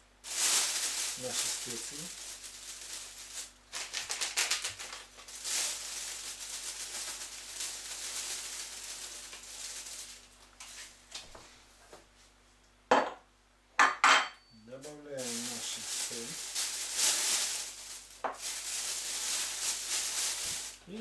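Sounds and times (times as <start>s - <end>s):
seasoning pattering into plastic bag: 0.2s - 11.0s, 14.8s - 21.0s
plastic crinkling: 0.2s - 11.3s, 14.8s - 21.0s.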